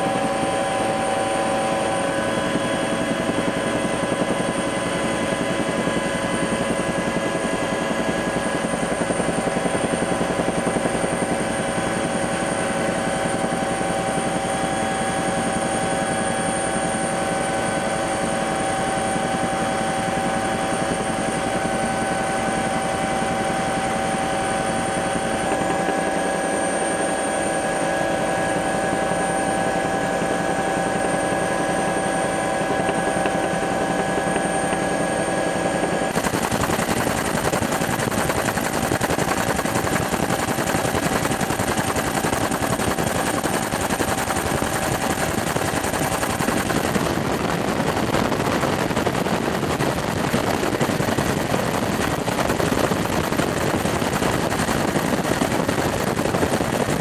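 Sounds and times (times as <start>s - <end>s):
aircraft engine drone: 0.0s - 57.0s.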